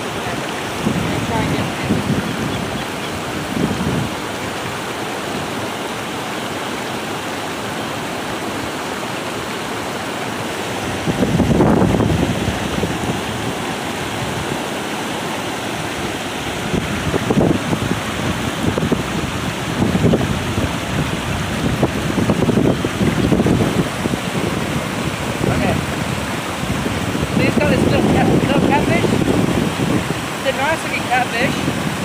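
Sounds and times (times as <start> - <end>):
creek water rushing over rocks: 0.0 - 32.0.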